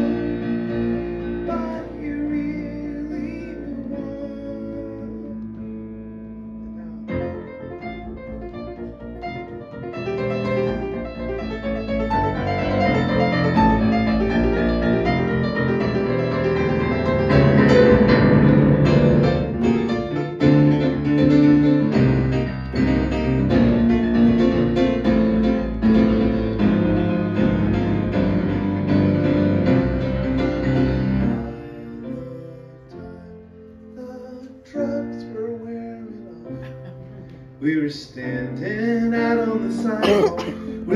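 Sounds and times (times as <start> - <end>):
grand piano chords: 0.0 - 40.9.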